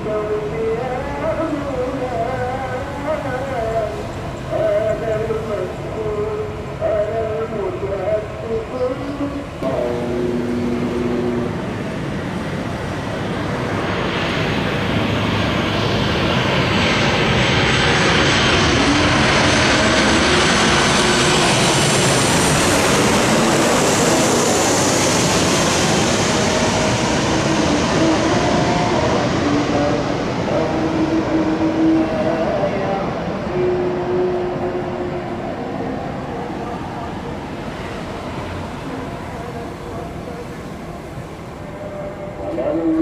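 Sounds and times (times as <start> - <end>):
airplane engines rushing: 0.0 - 43.0.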